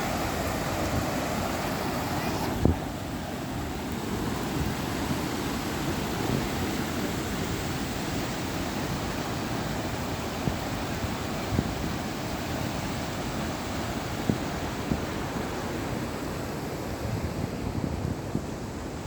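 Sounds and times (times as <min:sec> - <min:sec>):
fast-flowing water rushing: 0:00.0 - 0:19.0.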